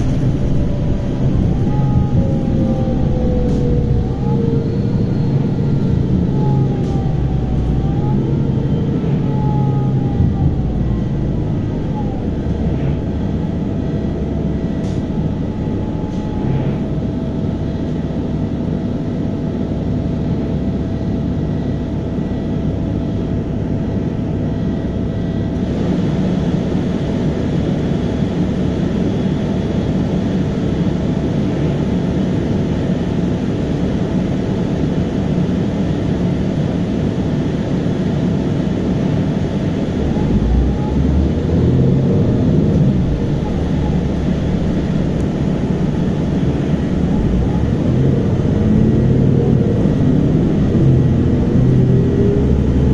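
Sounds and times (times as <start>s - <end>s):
bus engine and tyres rumbling: 0.0s - 52.9s.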